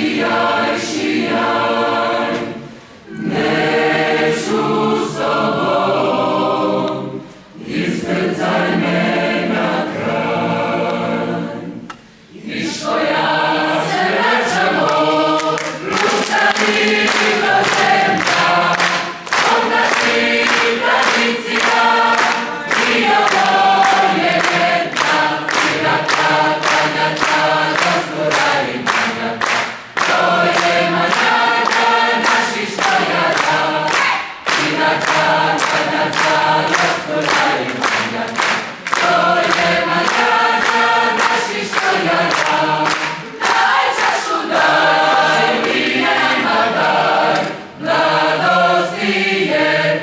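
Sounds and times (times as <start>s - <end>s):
mixed choir singing: 0.0s - 50.0s.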